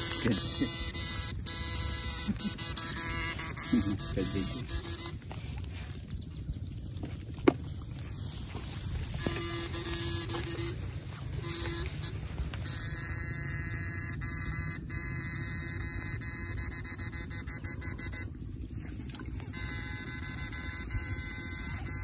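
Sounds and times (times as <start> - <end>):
electric shocker buzzing: 0.0 - 5.6, 8.4 - 18.5, 19.4 - 22.0.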